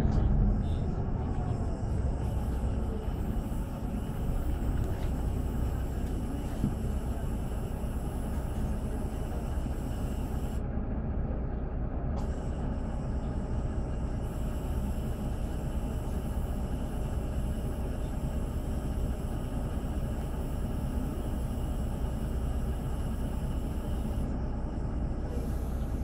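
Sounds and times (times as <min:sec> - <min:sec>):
bus diesel engine idling: 0:00.0 - 0:26.0.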